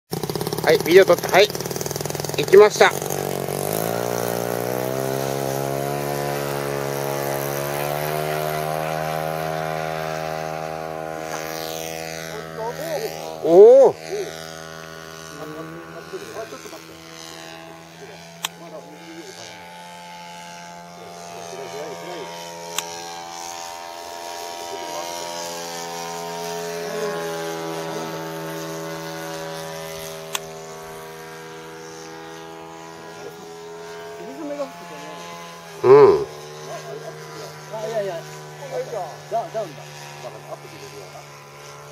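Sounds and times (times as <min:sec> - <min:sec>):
model plane motor and propeller: 0:00.1 - 0:41.9.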